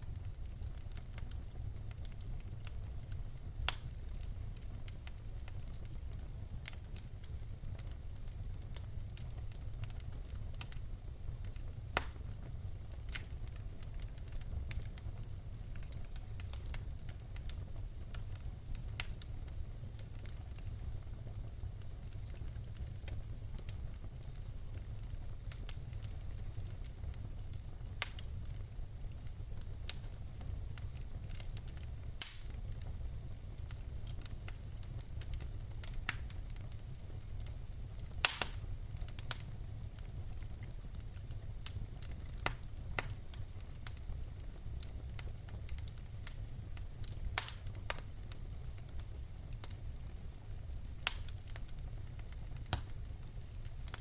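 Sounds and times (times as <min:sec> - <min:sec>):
fire flames rumbling: 0:00.0 - 0:54.0
logs crackling and popping: 0:00.1 - 0:54.0.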